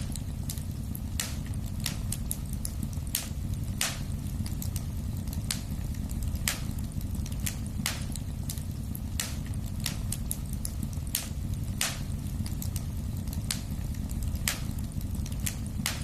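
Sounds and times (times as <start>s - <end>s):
low rumble of flames: 0.0s - 16.0s
wood fire crackles and pops: 0.0s - 16.0s.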